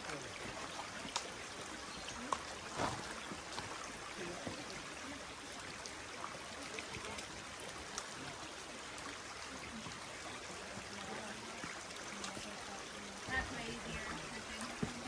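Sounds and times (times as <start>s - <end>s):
creek water flowing over rocks: 0.0s - 15.0s.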